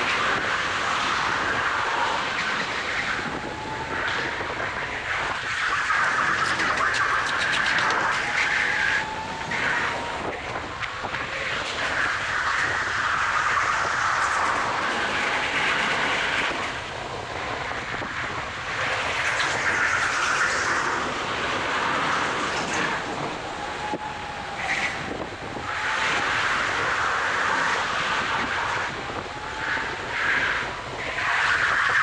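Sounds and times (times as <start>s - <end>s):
rushing air: 0.0s - 32.0s.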